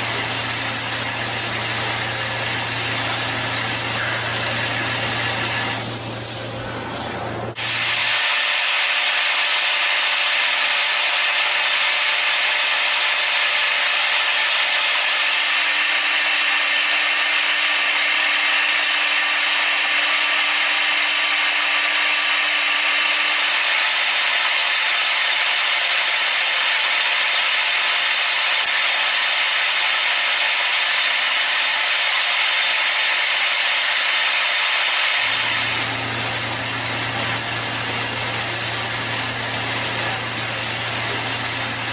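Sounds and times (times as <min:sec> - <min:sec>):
workshop machinery whirring: 0:00.0 - 0:41.9.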